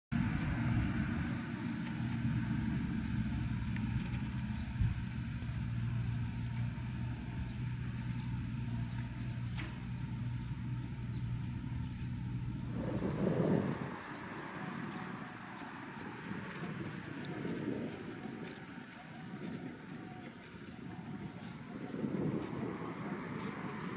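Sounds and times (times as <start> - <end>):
steady low rumble: 0.1 - 23.9
hum: 0.2 - 23.9.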